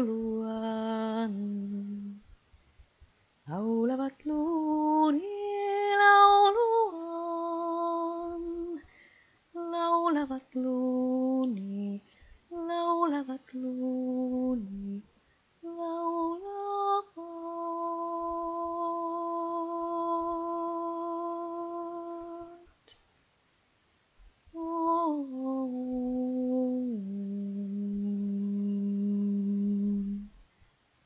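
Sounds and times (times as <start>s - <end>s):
woman humming melody: 0.0s - 2.3s, 3.5s - 8.8s, 9.6s - 15.0s, 15.6s - 22.7s, 24.6s - 30.4s.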